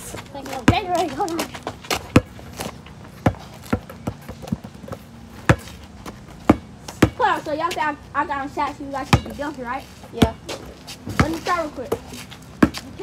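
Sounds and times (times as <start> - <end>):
basketball bouncing on asphalt: 0.0 - 13.0.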